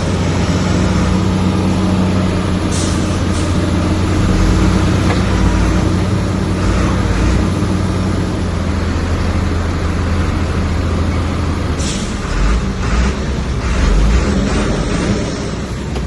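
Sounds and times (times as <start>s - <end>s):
heavy diesel engine under load: 0.0s - 16.0s.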